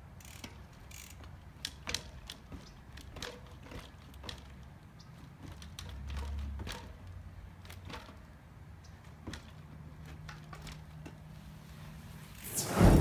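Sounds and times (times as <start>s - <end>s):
bicycle clicks and knocks: 0.0s - 11.4s.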